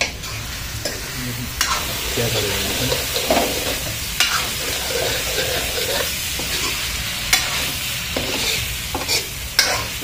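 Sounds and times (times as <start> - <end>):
curry sizzling in a pan: 0.0 - 10.0
metal spoon stirring and scraping: 0.2 - 10.0.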